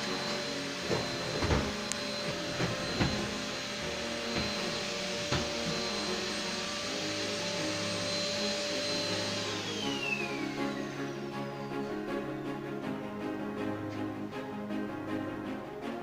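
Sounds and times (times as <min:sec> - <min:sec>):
vacuum cleaner whining: 0:00.0 - 0:15.5.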